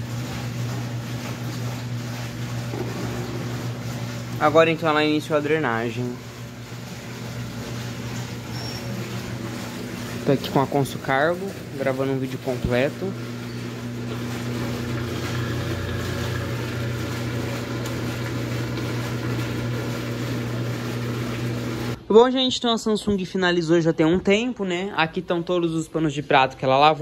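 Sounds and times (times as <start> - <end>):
washing machine drain pump humming: 0.0 - 22.6.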